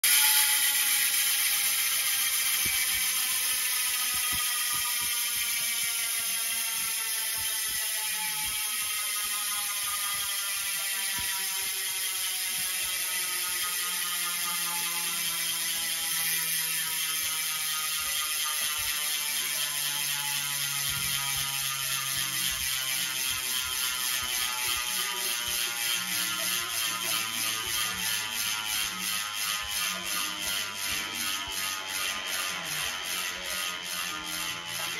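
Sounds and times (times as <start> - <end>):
bicycle freehub ratchet buzzing: 0.0 - 34.9.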